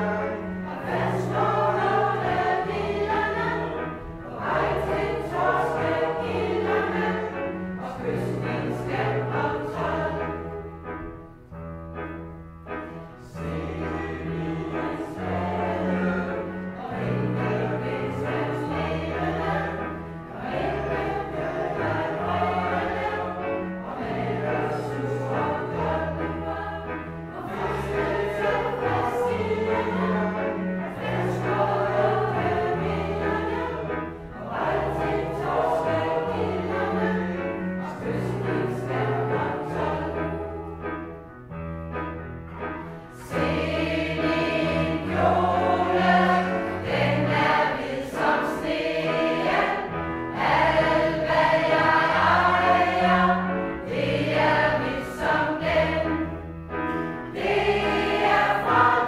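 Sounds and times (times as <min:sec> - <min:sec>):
choir singing: 0:00.0 - 0:11.1, 0:12.8 - 0:41.4, 0:42.6 - 0:59.0.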